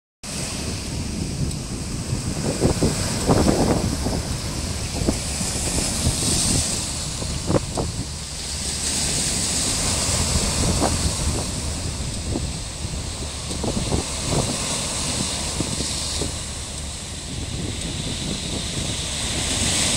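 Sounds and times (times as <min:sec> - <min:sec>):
sharp water splashes: 0:00.3 - 0:19.9
waves breaking on rocks: 0:00.3 - 0:19.9
wind buffeting microphone: 0:00.3 - 0:19.9.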